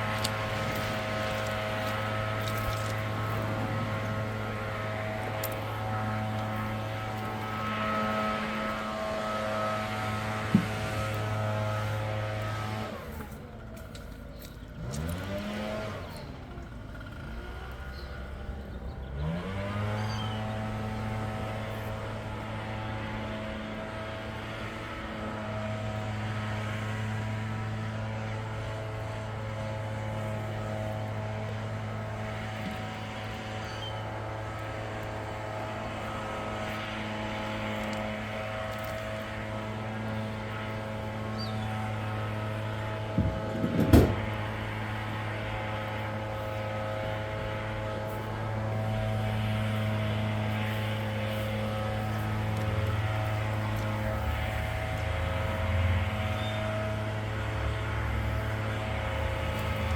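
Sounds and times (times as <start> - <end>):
leaf blower engine running: 0.0 - 59.9.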